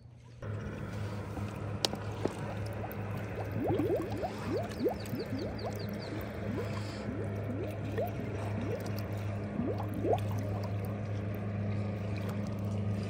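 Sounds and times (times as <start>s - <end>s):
steady low hum: 0.0s - 13.0s
air bubbles gurgling underwater: 1.3s - 13.0s.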